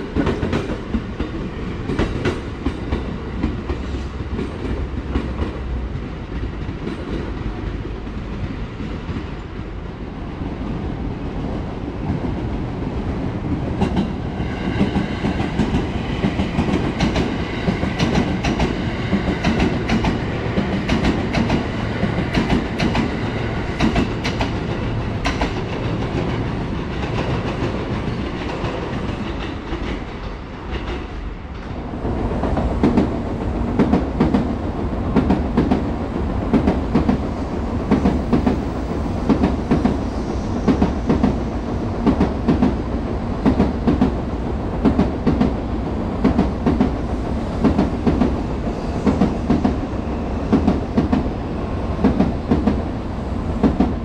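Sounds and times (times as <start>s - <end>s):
train wheels rumbling and clicking: 0.0s - 54.0s.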